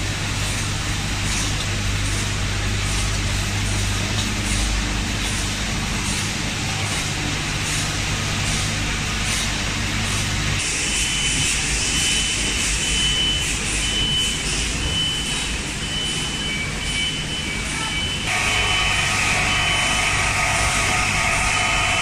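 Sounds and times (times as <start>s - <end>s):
packaging machinery running: 0.0s - 22.0s.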